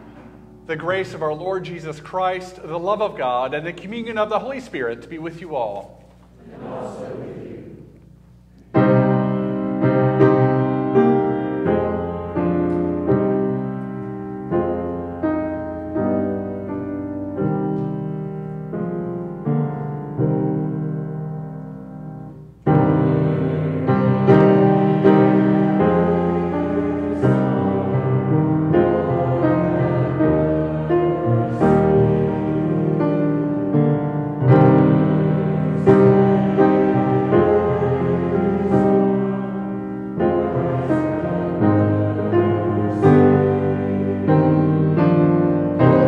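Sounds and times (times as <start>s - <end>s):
piano playing church chords: 0.0s - 46.0s.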